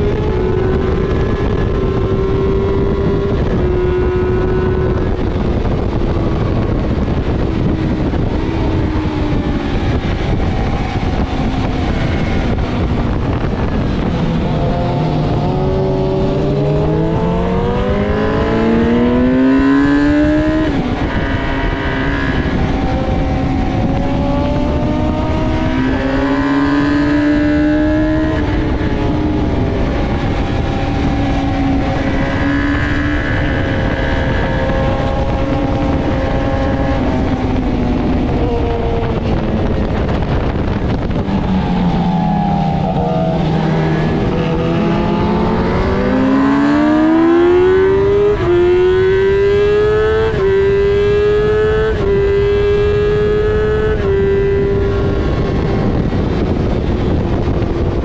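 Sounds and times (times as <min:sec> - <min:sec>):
motorcycle engine revving: 0:00.0 - 0:58.0
wind rushing: 0:00.0 - 0:58.0.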